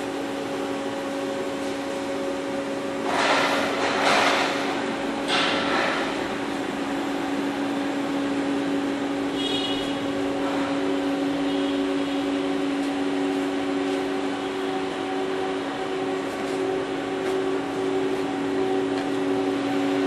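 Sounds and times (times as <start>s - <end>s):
lathe machine hum: 0.0s - 20.0s.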